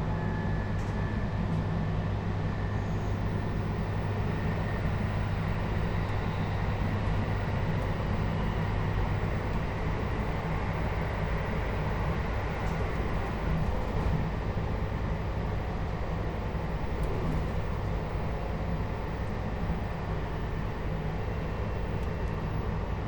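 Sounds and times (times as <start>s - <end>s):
train wheels and motors rumbling: 0.0s - 23.0s.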